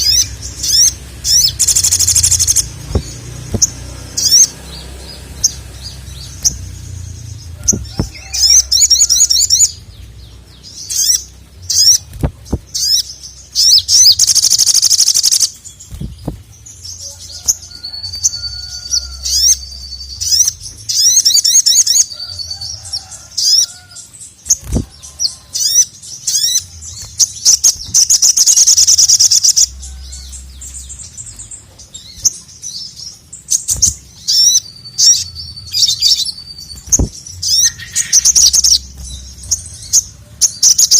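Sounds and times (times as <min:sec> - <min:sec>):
bird chattering trills: 0:00.0 - 0:40.9.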